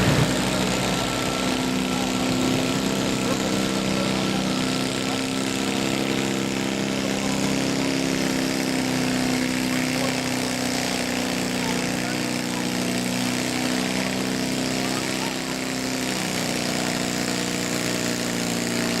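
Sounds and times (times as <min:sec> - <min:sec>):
riding lawn mower engine running: 0:00.0 - 0:19.0.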